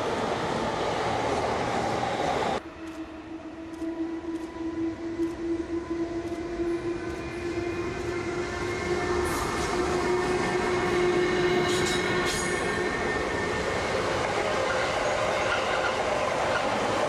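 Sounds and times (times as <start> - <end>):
electric locomotive whine: 0.0 - 17.0
freight train rumbling past: 0.0 - 17.0.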